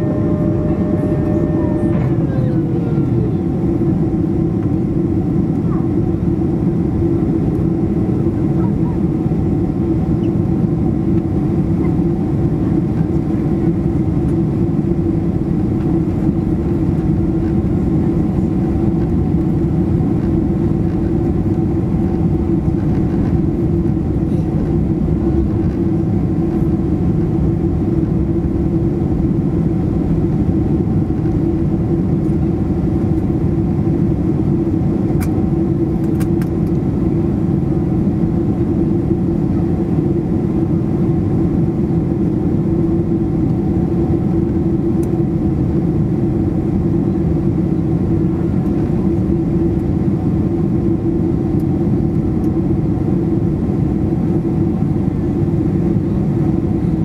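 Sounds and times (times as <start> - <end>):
airplane cabin drone: 0.0 - 57.0
even hum: 0.0 - 57.0.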